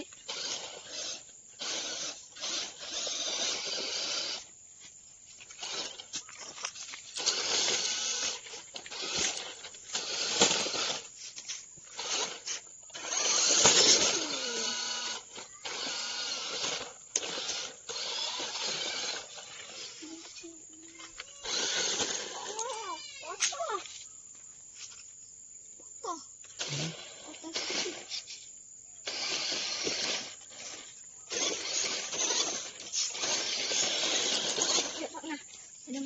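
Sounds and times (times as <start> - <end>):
toy truck electric motors whining: 0.0 - 25.1, 26.0 - 36.0.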